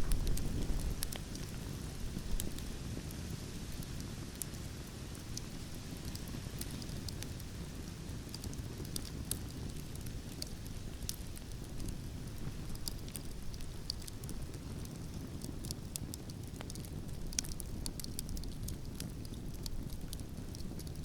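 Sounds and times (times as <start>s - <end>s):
campfire crackling and popping: 0.0s - 21.0s
low rumble of wind: 0.0s - 21.0s.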